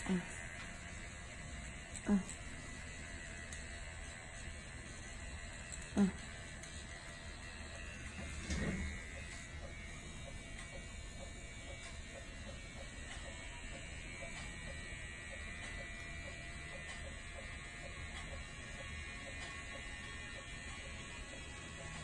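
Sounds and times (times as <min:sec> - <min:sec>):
electric buzz of small motor: 0:00.0 - 0:22.0.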